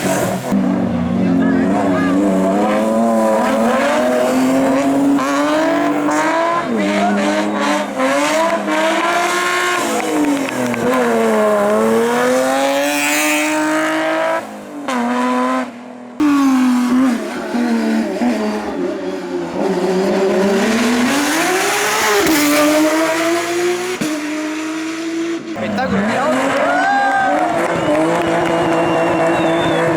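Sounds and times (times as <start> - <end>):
race car engine at full throttle: 0.0 - 29.9.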